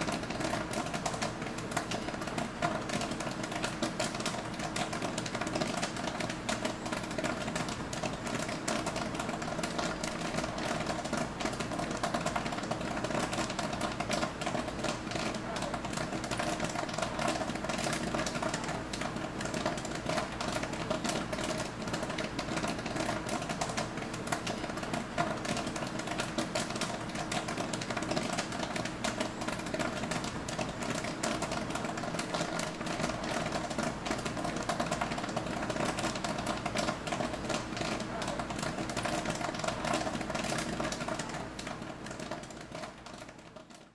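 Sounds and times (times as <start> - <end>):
popcorn popping: 0.0 - 43.9.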